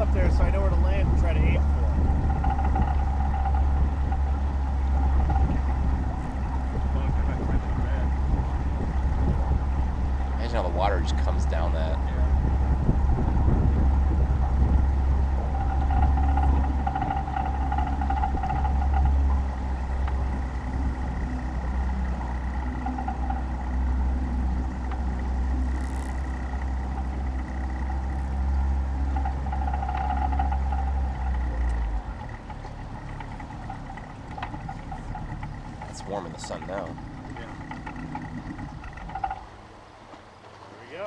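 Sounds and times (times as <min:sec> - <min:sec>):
motor higher hum: 0:00.0 - 0:41.0
motor low rumble: 0:00.0 - 0:41.0.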